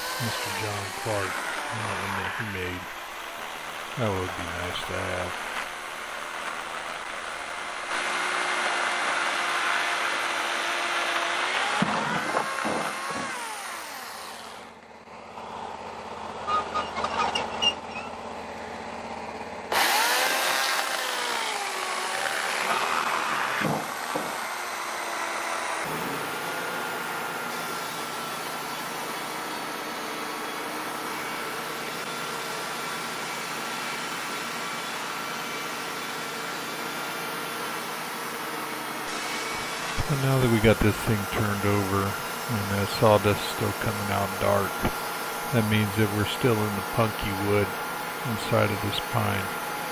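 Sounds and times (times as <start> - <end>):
saw blade whining through log: 0.0 - 15.0, 16.4 - 18.4, 19.7 - 49.9
band saw machinery running: 0.0 - 49.9.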